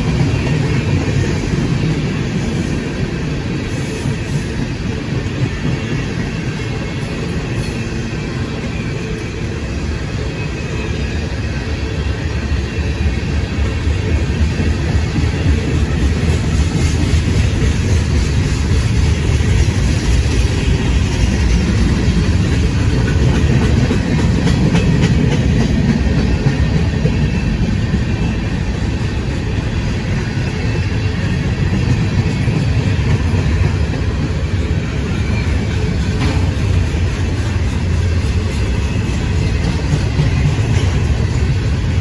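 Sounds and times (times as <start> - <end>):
train rumbling past: 0.0 - 42.0.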